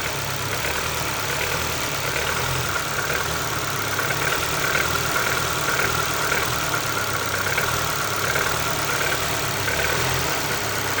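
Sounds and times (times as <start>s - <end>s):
car engine idling: 0.0s - 11.0s
engine knocking: 0.0s - 11.0s.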